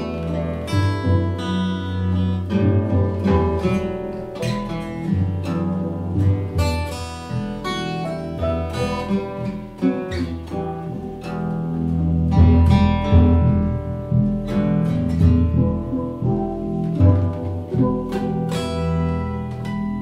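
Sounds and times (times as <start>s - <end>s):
acoustic guitar music: 0.0s - 20.0s
low bass notes: 0.0s - 20.0s.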